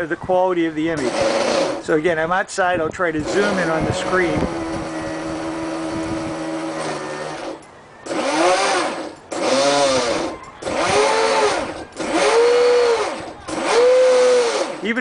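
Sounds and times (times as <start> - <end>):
electric motor whining: 1.0 - 1.9, 3.2 - 15.0.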